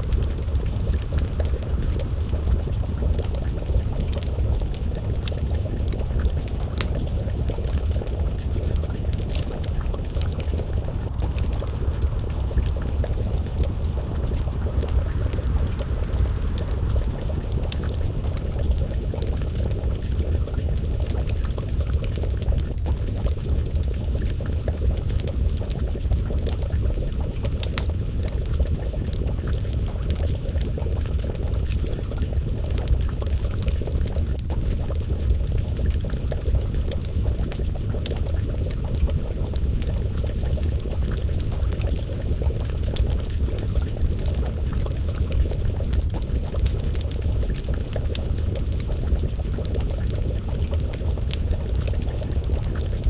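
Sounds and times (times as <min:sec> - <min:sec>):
low rumble: 0:00.0 - 0:53.0
stew bubbling in a pot: 0:00.0 - 0:53.0
wood fire crackling: 0:00.0 - 0:53.0.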